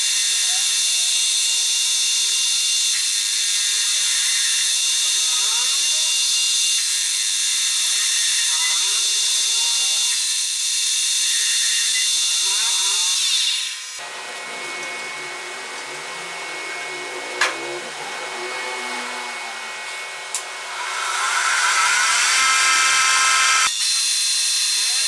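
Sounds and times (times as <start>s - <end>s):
metal lathe whining: 0.0s - 25.0s.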